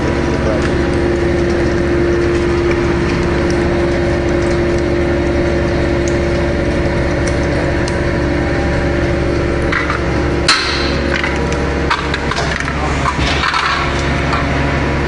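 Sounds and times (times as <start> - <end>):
baling press machine hum: 0.0 - 15.0.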